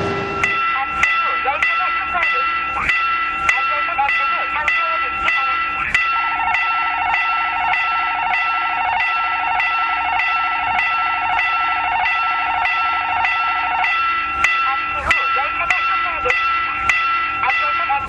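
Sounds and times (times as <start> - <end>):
level-crossing bell dinging: 0.0 - 18.0.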